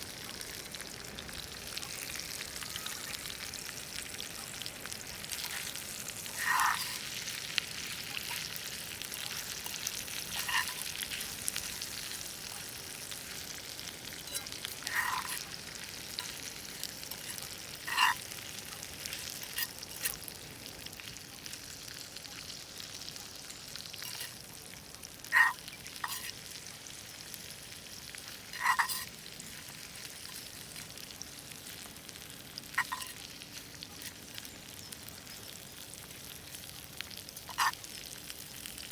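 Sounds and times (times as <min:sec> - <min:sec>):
potatoes sizzling in a pan: 0:00.0 - 0:38.9.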